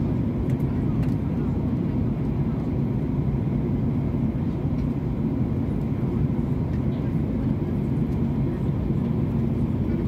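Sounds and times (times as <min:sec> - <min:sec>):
airliner cabin drone: 0:00.0 - 0:10.0.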